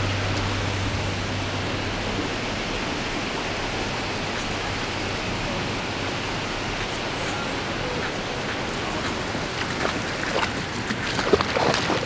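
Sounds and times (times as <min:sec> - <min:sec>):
low hum: 0:00.0 - 0:09.9
steady rushing noise: 0:00.0 - 0:12.0.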